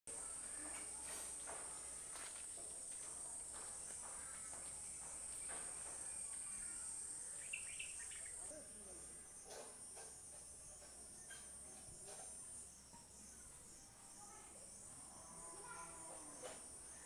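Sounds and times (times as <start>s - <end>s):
insects chirring: 0.1s - 17.0s.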